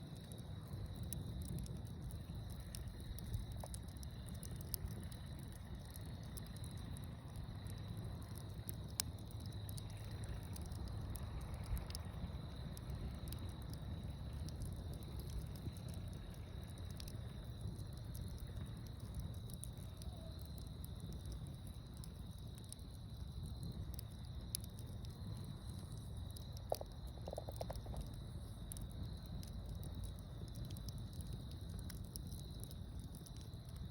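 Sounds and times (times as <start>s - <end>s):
fire crackling and popping: 0.0s - 33.9s
insects trilling: 0.1s - 33.9s.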